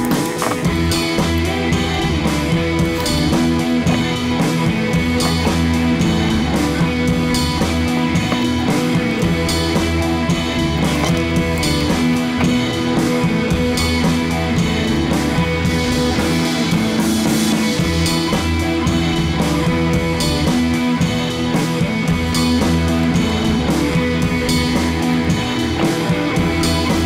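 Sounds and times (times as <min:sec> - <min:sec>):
rock music with guitar and drums: 0:00.0 - 0:27.0.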